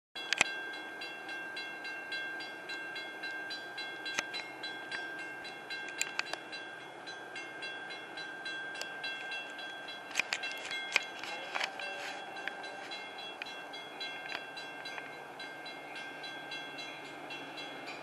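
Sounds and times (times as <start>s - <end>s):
railroad crossing bell ringing: 0.2s - 18.0s.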